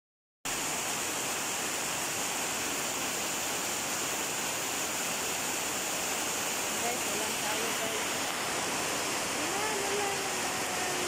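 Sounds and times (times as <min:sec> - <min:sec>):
rain pouring on concrete and roofs: 0:00.5 - 0:11.0.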